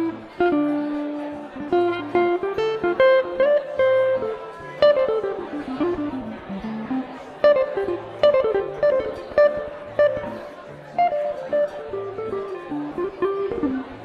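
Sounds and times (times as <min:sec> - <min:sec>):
guitar picking single notes: 0:00.0 - 0:14.0.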